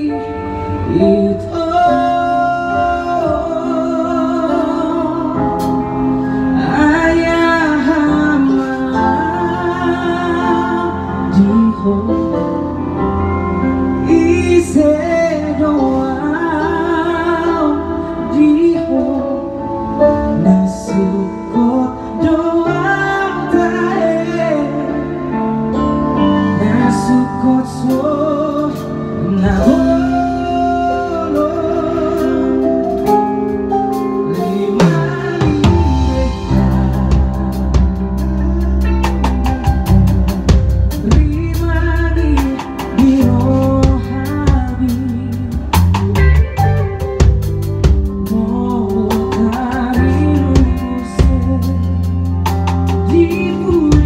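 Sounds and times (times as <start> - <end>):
keyboard guitar and bass: 0.0 - 54.0
person singing with vibrato: 0.0 - 54.0
drum kit: 0.7 - 54.0.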